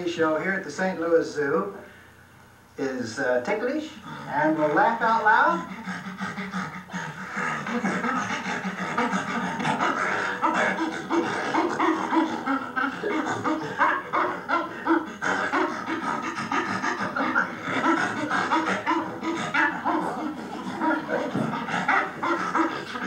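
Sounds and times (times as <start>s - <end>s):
chimpanzee panting laugh: 4.0s - 23.0s.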